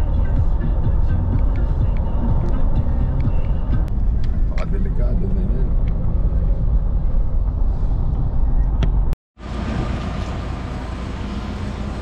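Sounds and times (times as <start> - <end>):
engine and road rumble in vehicle: 0.0 - 12.0.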